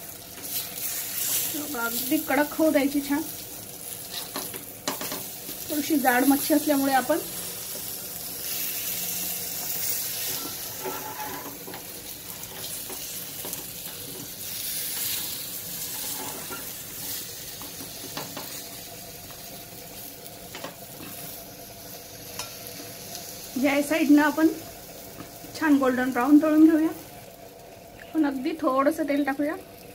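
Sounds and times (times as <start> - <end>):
fish sizzling in a frying pan: 0.0 - 29.9.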